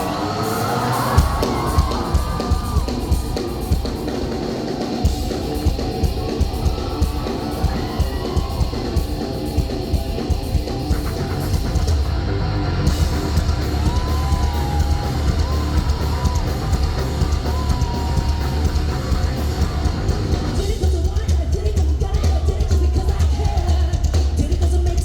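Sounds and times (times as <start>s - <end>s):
distorted electric guitars: 0.0s - 21.2s
drum kit beat: 0.0s - 25.0s.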